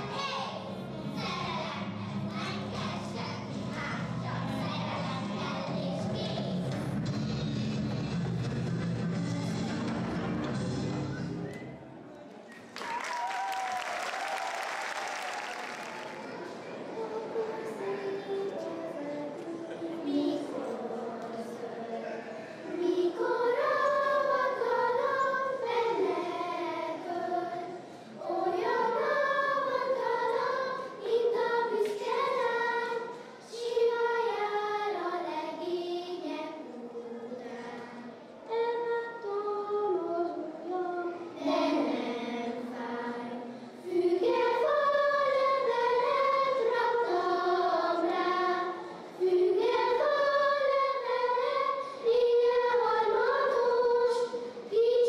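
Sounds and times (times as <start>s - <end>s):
children singing a folk song: 0.0s - 6.8s, 16.4s - 55.0s.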